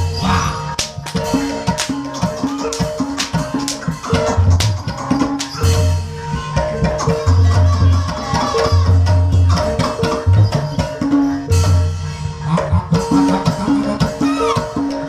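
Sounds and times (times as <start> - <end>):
deep bass drum beats: 0.0 - 15.0
drumming: 0.0 - 15.0
gamelan melody of struck notes: 0.0 - 15.0.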